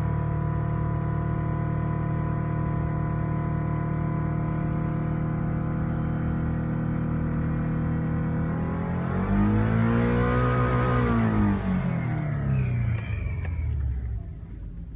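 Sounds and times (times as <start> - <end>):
car engine idling and revving: 0.0 - 14.9.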